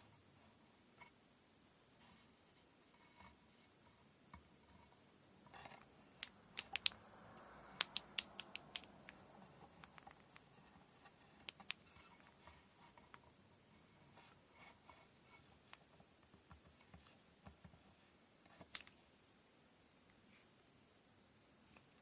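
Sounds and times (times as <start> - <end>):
soft rustle of thread: 0.0 - 22.0.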